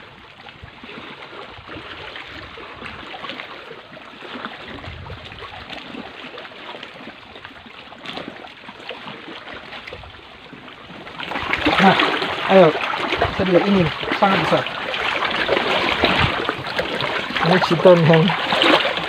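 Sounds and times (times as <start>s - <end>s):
water lapping among rocks: 0.0s - 19.0s.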